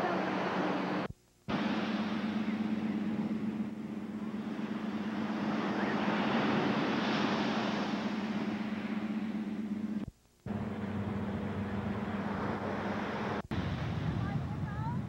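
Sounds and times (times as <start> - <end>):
low hum: 0.0 - 15.0
ocean surf washing on beach: 0.0 - 15.0.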